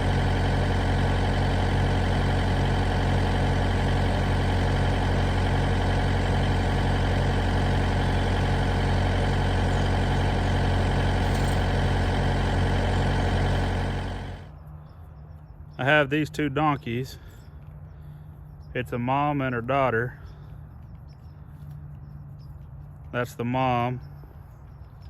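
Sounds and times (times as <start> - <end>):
vehicle engine running steadily: 0.0 - 25.0.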